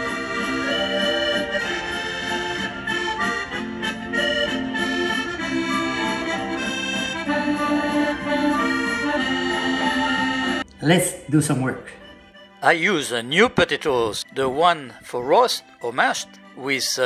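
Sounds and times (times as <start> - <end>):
instrumental background music: 0.0 - 17.0.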